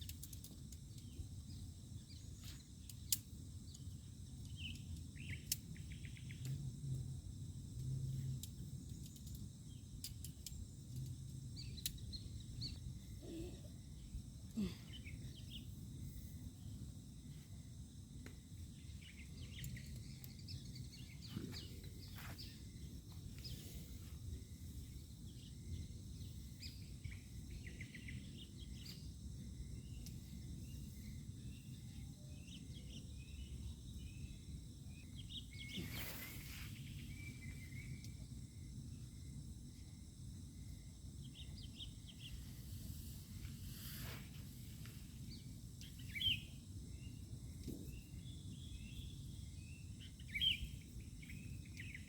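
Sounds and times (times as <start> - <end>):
insect chirps: 0.0 - 52.0
insect hum: 0.0 - 52.0.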